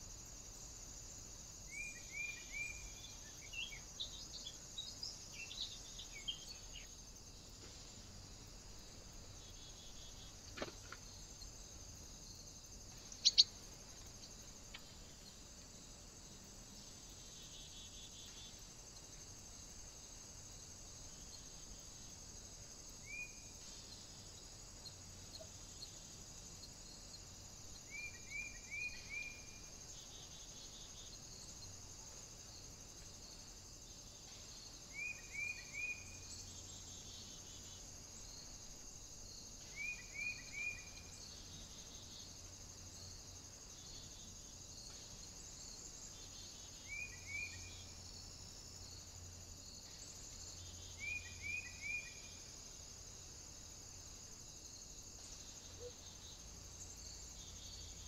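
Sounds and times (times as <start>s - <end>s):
insect chirring: 0.0s - 58.0s.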